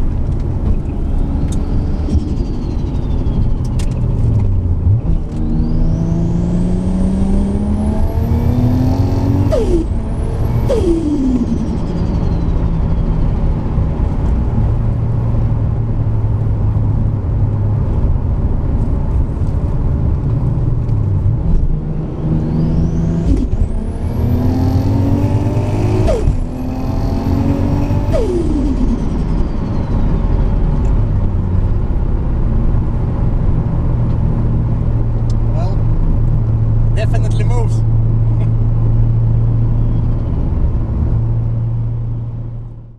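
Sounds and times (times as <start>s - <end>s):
car engine accelerating hard: 0.0s - 42.8s.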